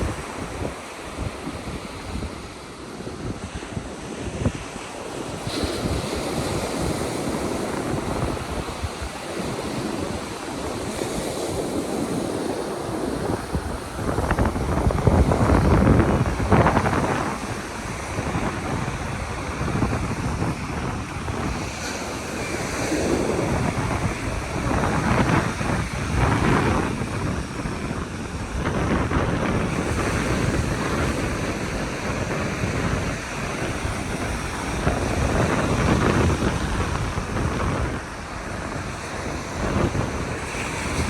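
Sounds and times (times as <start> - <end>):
ocean surf breaking: 0.0 - 41.0
wind buffeting microphone: 0.0 - 41.0.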